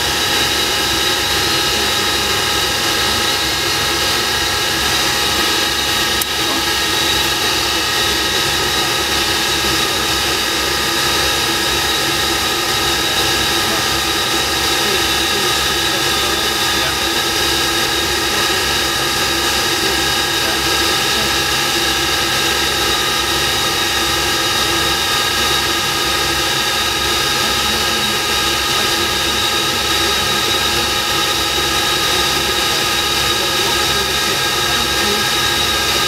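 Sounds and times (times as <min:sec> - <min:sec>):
jet engines rushing and whining: 0:00.0 - 0:36.0.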